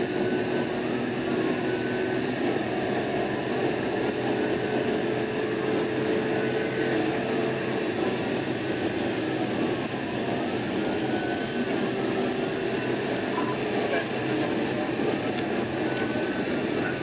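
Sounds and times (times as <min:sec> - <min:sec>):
faint wailing siren: 0:00.0 - 0:17.0
road and engine noise: 0:00.0 - 0:17.0.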